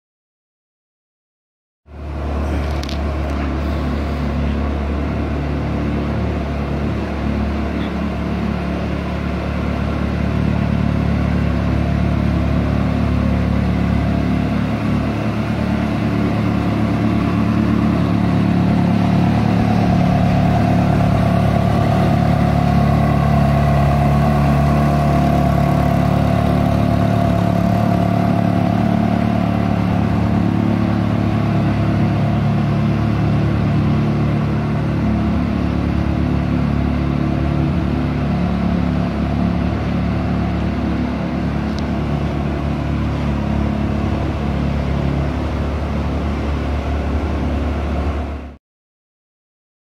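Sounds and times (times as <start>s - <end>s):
car engine idling: 1.9s - 47.8s.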